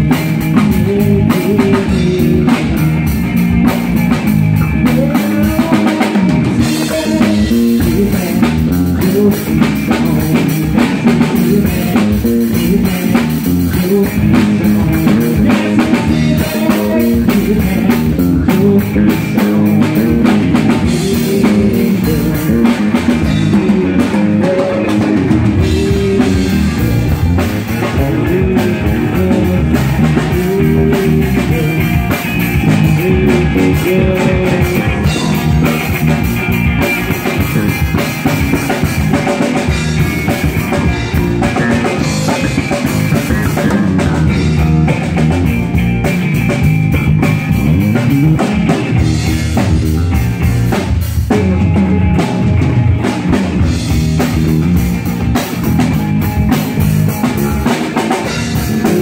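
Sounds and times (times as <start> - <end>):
drum kit: 0.0 - 59.0
electric guitars: 0.0 - 59.0
live rock band playing: 0.0 - 59.0.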